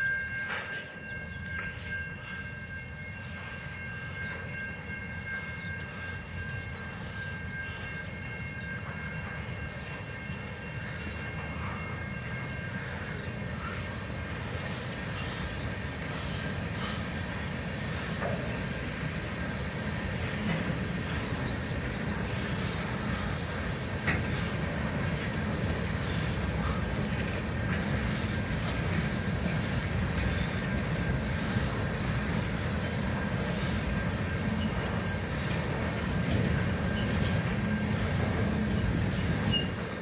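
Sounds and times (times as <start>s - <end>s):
train wheels rumbling on track: 0.0s - 40.0s.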